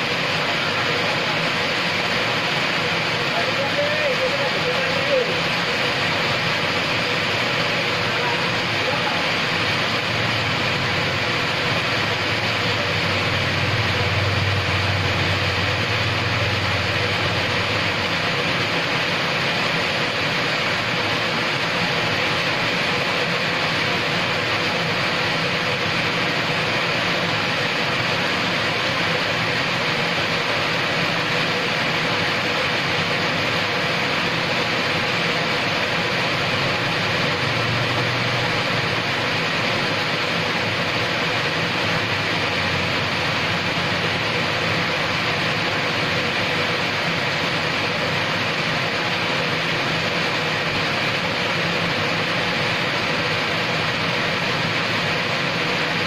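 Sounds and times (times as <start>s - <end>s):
steady rain on paving: 0.0s - 56.0s.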